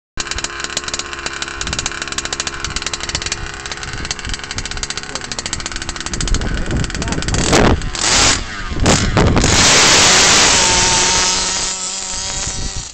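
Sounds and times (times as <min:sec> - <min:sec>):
two-stroke engine running: 0:00.2 - 0:12.9.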